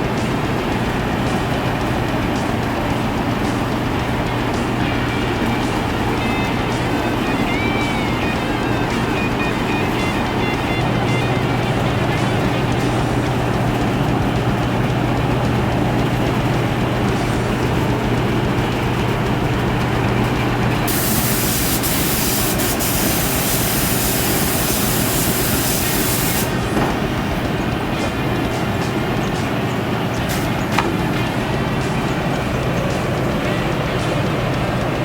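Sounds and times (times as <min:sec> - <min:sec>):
paint spray gun hissing: 0:00.0 - 0:33.4
steady low hum: 0:00.0 - 0:35.0.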